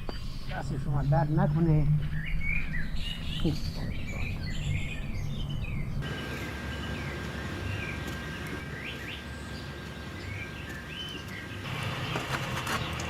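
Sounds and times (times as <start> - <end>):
low background rumble: 0.0 - 12.7
small birds chirping: 0.0 - 13.0.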